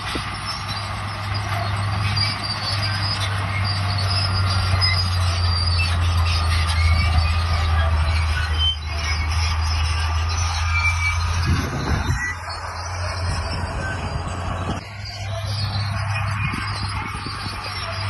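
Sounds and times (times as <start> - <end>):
bulldozer diesel engine running: 0.0 - 18.0
crawler tracks squealing: 0.0 - 18.0.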